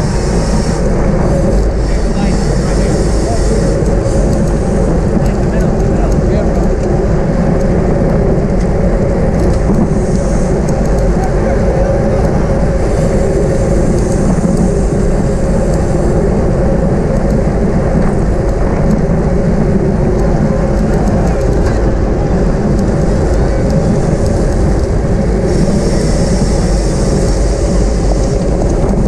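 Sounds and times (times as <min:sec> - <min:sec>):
bicycle road noise: 0:00.0 - 0:29.0
wind buffeting microphone: 0:00.0 - 0:29.0
wind rush: 0:00.0 - 0:29.0.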